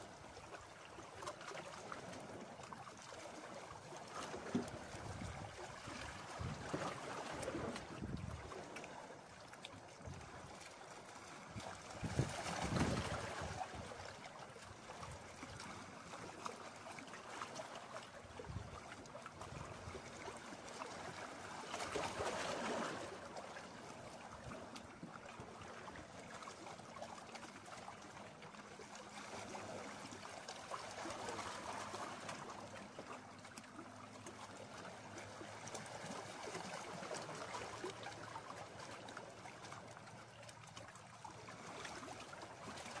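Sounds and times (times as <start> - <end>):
waves lapping on rocks: 0.0 - 43.0.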